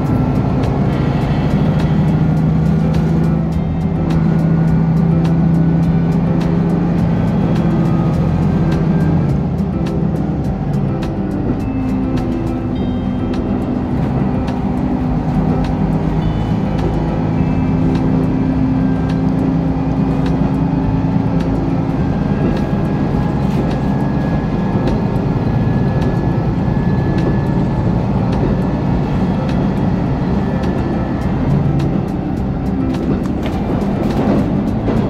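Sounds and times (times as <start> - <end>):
diesel engine drone: 0.0 - 35.0
rail and wheel rumble: 0.0 - 35.0.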